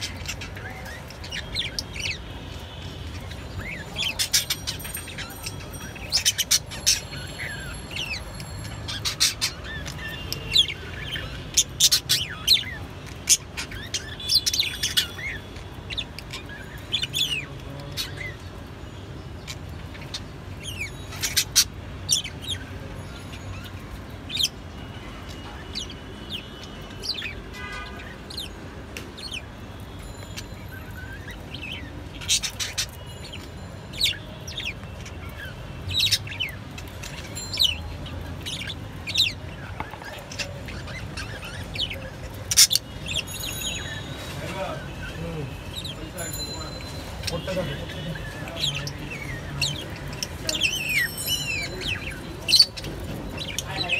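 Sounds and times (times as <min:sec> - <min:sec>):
lovebirds chirping: 0:00.0 - 0:53.9.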